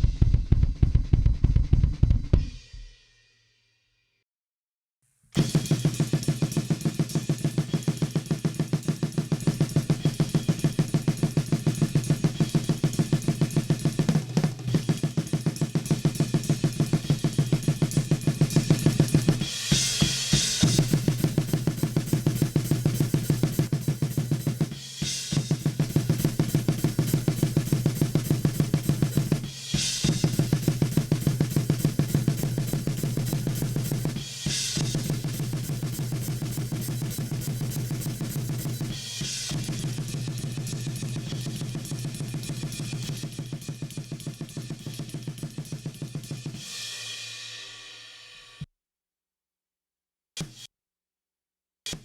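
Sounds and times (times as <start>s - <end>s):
kick drum strokes: 0.0s - 3.0s, 5.4s - 46.6s
snare drum: 0.0s - 3.0s, 5.4s - 46.7s.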